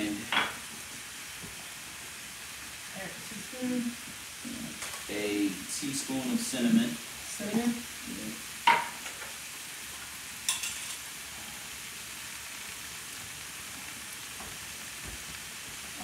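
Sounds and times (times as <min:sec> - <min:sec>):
food sizzling in frying pans: 0:00.0 - 0:16.0.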